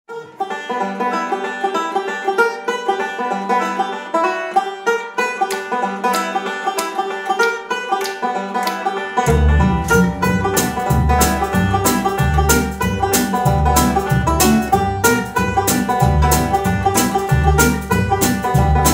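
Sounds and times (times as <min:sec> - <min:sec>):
acoustic guitar: 0:00.1 - 0:18.9
banjo: 0:00.1 - 0:18.9.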